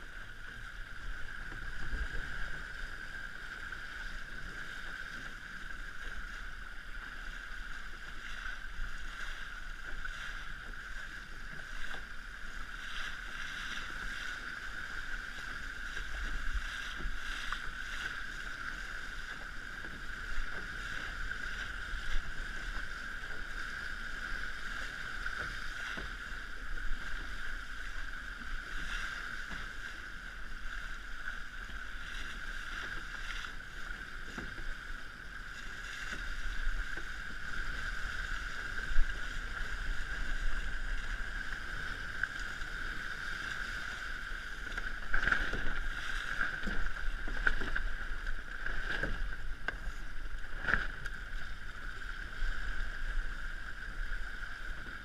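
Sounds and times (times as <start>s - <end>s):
hull rushing through water: 0.0s - 55.0s
low wind rumble: 0.0s - 55.0s
waves slapping against hull: 0.0s - 55.0s.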